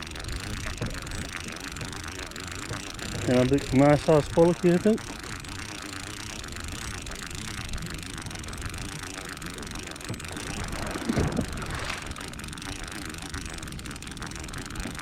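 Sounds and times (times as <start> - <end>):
boat and wind noise: 0.0 - 15.0
fishing reel whirring: 0.0 - 15.0.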